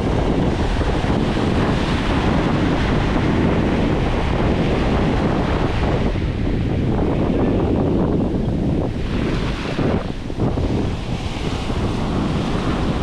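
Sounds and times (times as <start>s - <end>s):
surf breaking on sand: 0.0s - 13.0s
wind buffeting microphone: 0.0s - 13.0s.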